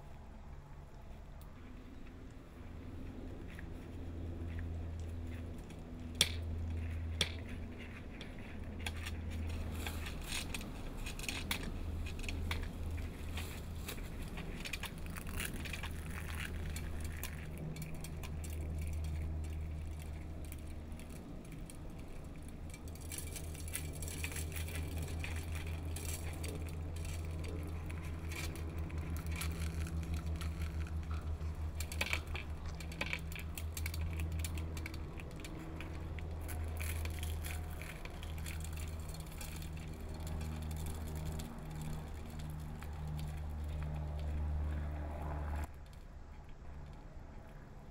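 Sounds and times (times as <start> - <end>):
low drone: 0.0 - 47.9
light clicks and crackles: 0.1 - 47.9.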